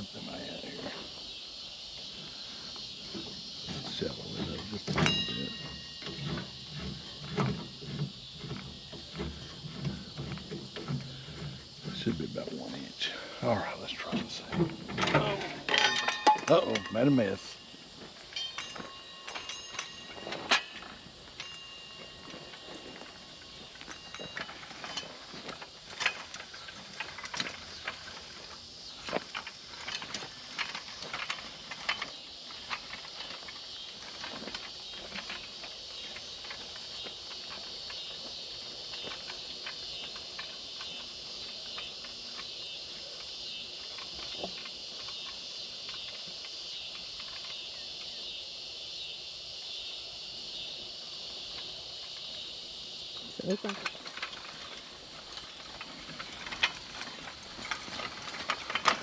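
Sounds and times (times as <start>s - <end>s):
steady high-pitched hiss: 0.0s - 59.0s
push seeder rattling and clicking: 2.1s - 48.4s, 50.5s - 59.0s.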